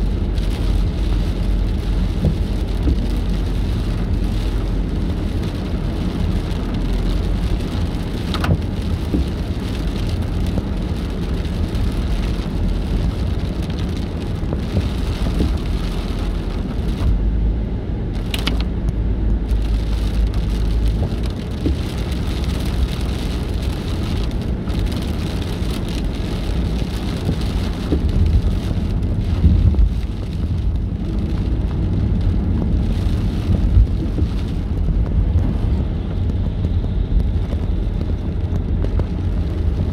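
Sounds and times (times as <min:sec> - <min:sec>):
rain on car windshield: 0:00.0 - 0:17.2, 0:18.0 - 0:39.9
car rumbling on wet road: 0:00.0 - 0:39.9.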